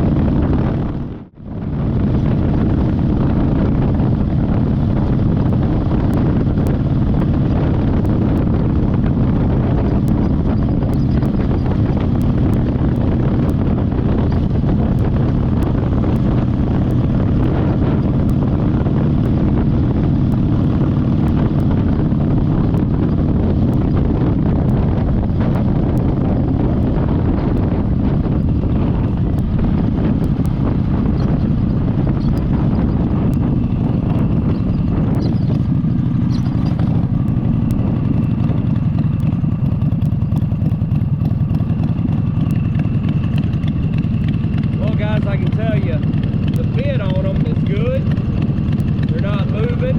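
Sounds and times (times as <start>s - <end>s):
motorcycle running: 0.0s - 49.9s
wind rushing over microphone: 0.0s - 49.9s.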